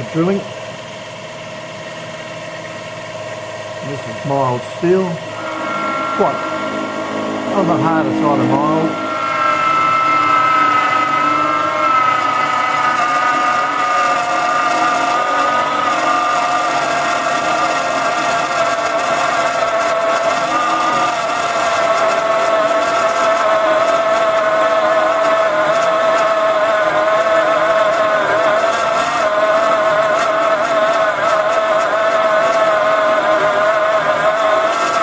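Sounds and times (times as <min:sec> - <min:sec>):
electric motor drill whining: 0:04.8 - 0:35.0.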